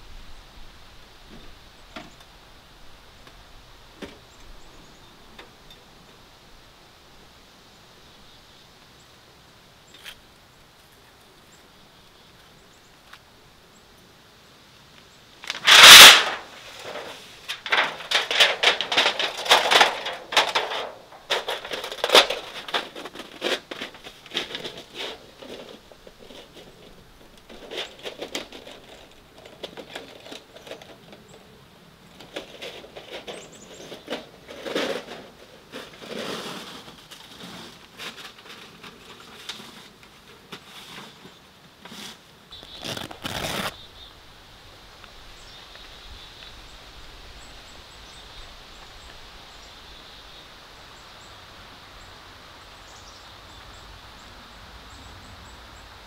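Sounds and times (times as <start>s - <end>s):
faint high hiss: 0.0s - 56.0s.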